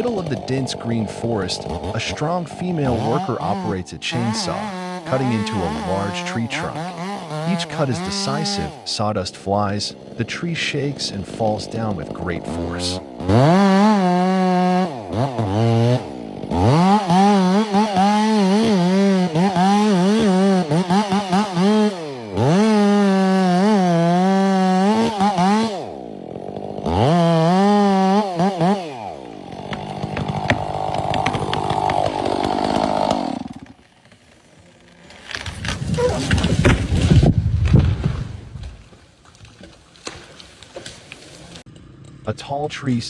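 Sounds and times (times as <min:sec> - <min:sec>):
chainsaw cutting wood: 0:00.0 - 0:42.2.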